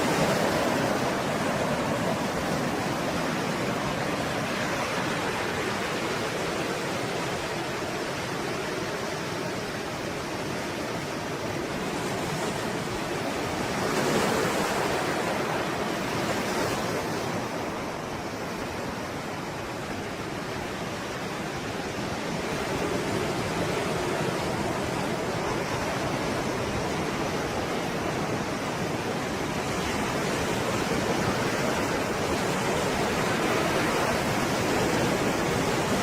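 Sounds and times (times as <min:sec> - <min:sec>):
sea waves breaking: 0:00.0 - 0:36.0.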